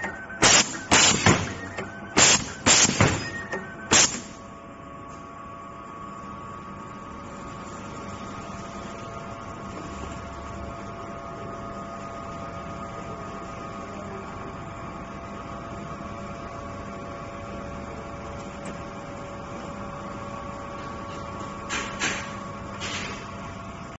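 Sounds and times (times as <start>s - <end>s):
workshop machinery humming: 0.0s - 23.9s.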